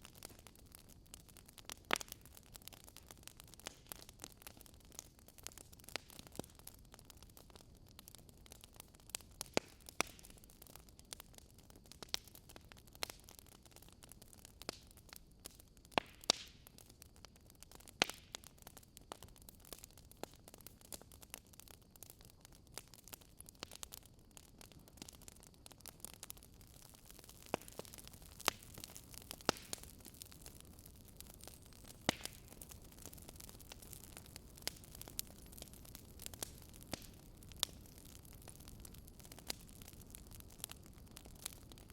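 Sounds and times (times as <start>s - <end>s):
faint steady hiss: 0.0s - 41.9s
wood fire crackling: 0.0s - 41.9s.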